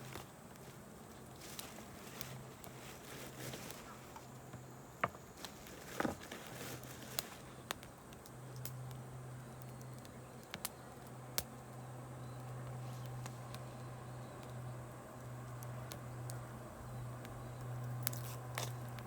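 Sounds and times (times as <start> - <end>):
campfire crackling: 0.0 - 19.0
faint low hum: 0.0 - 19.0.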